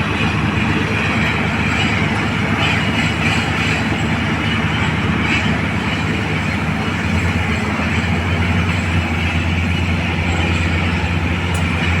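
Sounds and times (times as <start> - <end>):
heavy mechanical rumble: 0.0 - 12.0.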